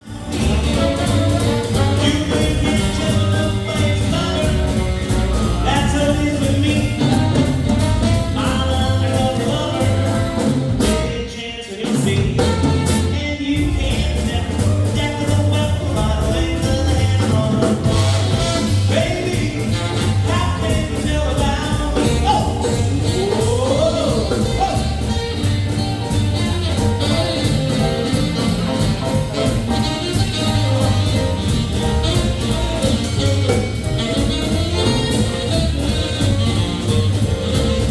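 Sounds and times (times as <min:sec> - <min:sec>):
live band playing swing music: 0:00.0 - 0:37.9.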